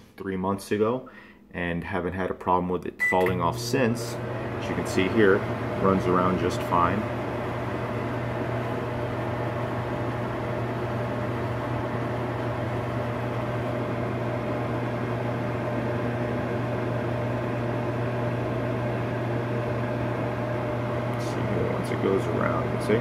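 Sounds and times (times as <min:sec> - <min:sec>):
microwave oven humming: 0:03.0 - 0:23.0.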